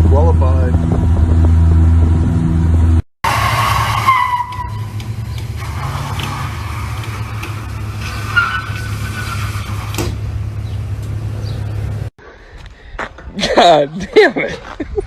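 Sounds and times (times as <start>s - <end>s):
engine droning: 0.0s - 12.1s.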